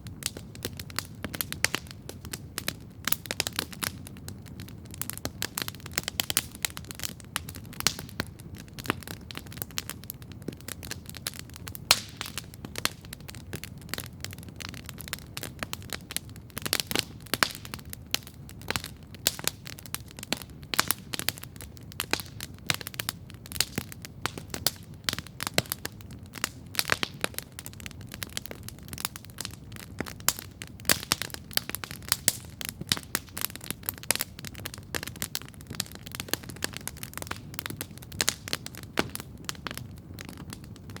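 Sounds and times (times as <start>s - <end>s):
campfire crackling and popping: 0.0s - 41.0s
low rumble of flames: 0.0s - 41.0s.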